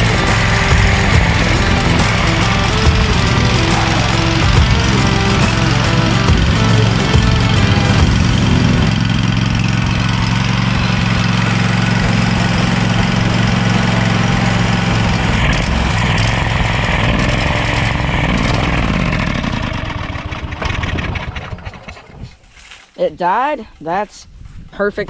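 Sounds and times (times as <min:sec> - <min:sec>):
mower engine running: 0:00.0 - 0:22.7.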